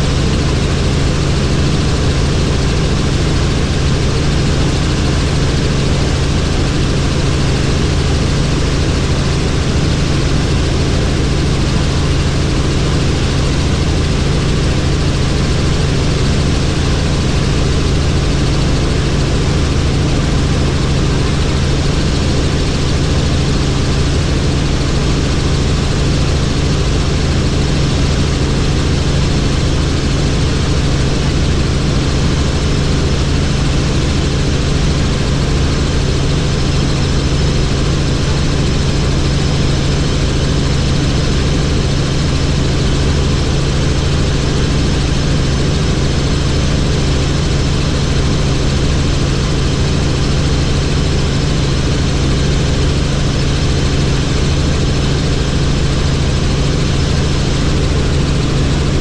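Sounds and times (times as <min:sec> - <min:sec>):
helicopter in flight: 0:00.0 - 0:59.0.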